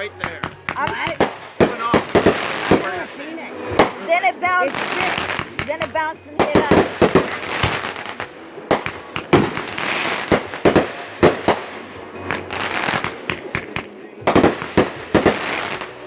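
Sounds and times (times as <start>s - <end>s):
fireworks banging and crackling: 0.0s - 16.0s
fireworks hissing rush: 0.0s - 16.0s.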